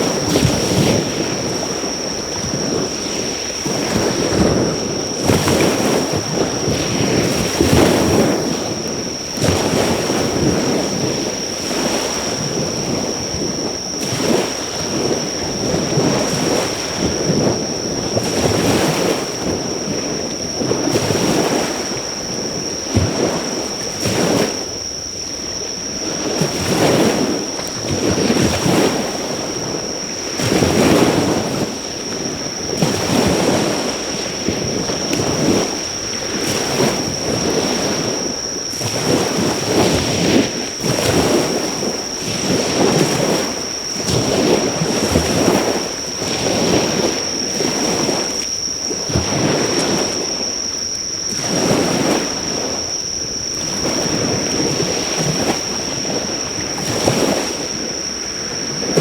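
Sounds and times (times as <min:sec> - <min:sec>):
waves washing onto shore: 0:00.0 - 0:59.0.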